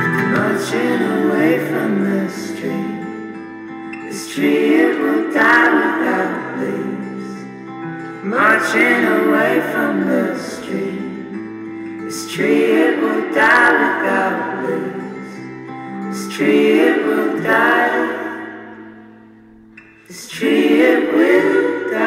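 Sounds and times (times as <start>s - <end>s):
song with singing: 0.0s - 22.0s.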